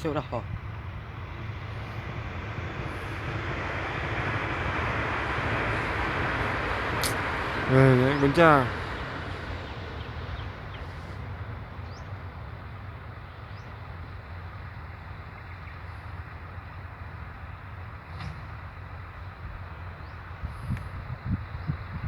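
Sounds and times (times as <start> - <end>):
machine engine droning: 0.0 - 22.0.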